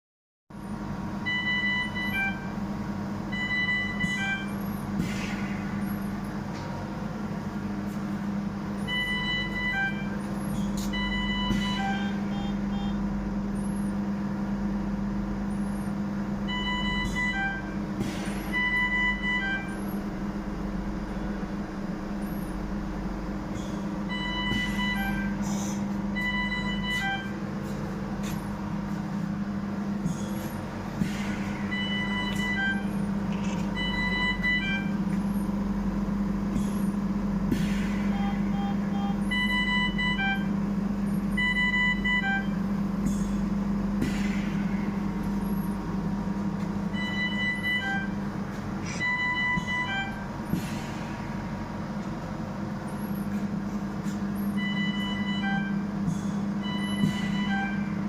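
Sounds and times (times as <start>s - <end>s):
low machine hum: 0.5s - 58.0s
ventilator alarm beeps: 0.6s - 6.5s, 7.8s - 58.0s.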